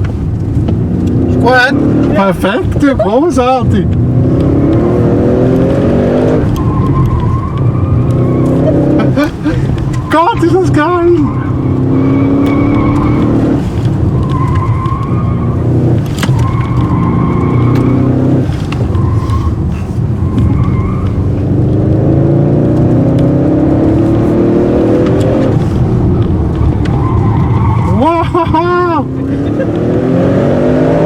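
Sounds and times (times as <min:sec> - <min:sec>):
car engine accelerating hard: 0:00.0 - 0:31.0
tyres squealing: 0:01.4 - 0:21.5, 0:23.9 - 0:30.8.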